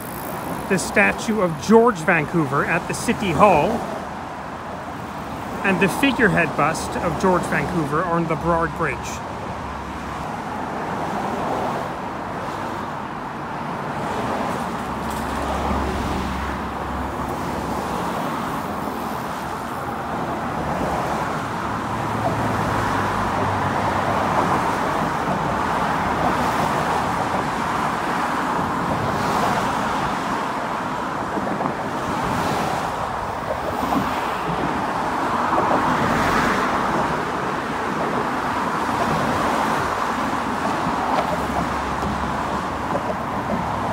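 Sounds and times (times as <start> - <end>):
cars passing on road: 0.0 - 43.9.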